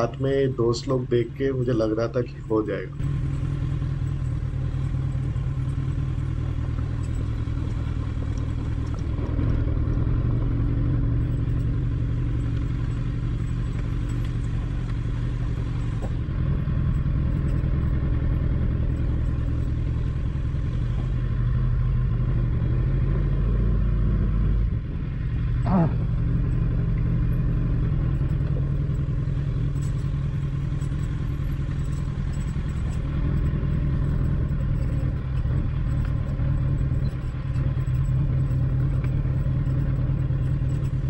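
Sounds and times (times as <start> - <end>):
motorcycle engine at low speed: 0.0 - 41.0.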